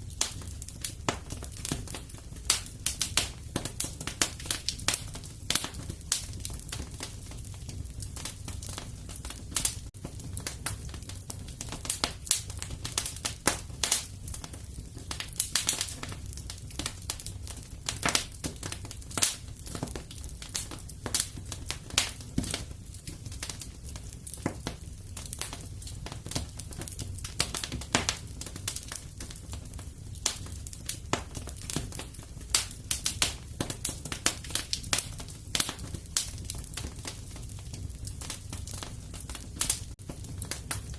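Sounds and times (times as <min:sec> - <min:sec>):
fire popping and snapping: 0:00.0 - 0:40.9
fire rumbling: 0:00.0 - 0:40.9.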